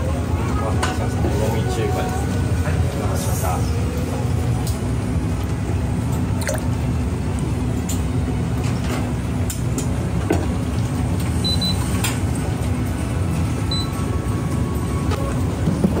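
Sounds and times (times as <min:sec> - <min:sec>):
low kitchen rumble: 0:00.0 - 0:16.0.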